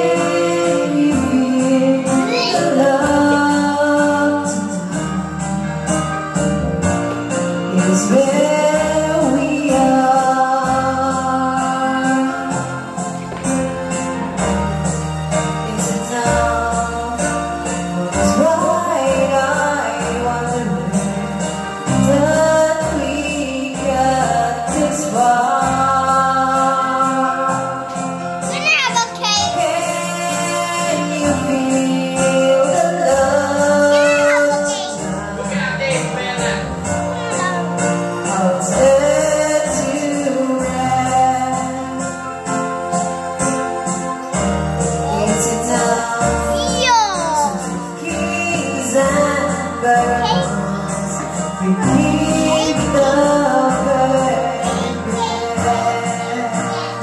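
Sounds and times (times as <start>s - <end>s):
woman singing into a microphone: 0.0s - 14.2s, 15.0s - 28.5s, 29.5s - 35.6s, 37.1s - 57.0s
music backing track with beat: 0.0s - 57.0s.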